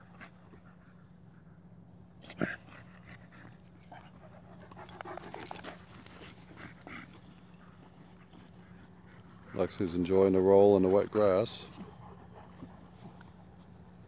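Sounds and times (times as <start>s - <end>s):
dog panting: 2.3s - 14.0s.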